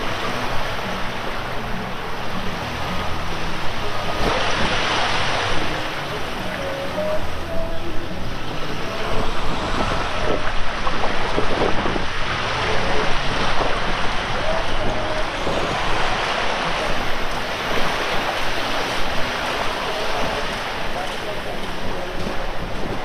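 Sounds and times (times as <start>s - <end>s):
waves washing onto sand: 0.0s - 23.0s
wind on microphone: 0.0s - 23.0s.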